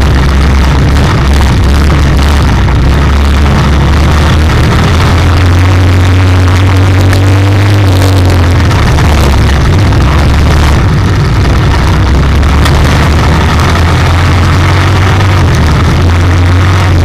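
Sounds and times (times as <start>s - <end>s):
car engine running loud: 0.0s - 17.0s.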